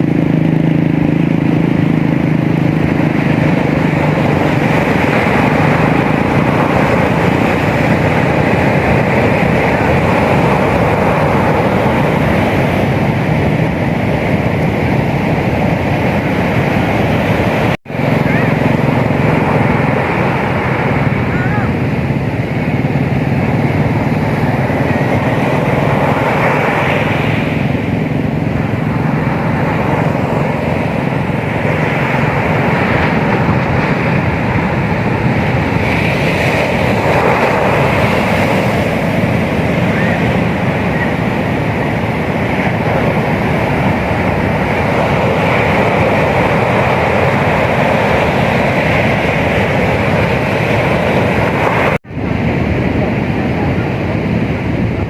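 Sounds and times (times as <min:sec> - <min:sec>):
ocean surf breaking: 0:00.0 - 0:55.0
wind on microphone: 0:00.0 - 0:55.0.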